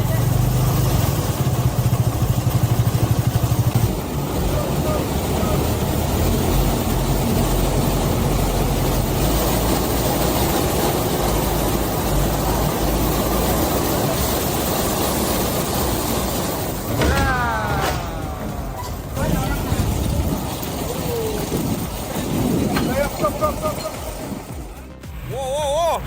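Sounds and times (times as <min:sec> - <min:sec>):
heavy vehicle engine running: 0:00.0 - 0:26.0
rush of noise: 0:00.0 - 0:26.0.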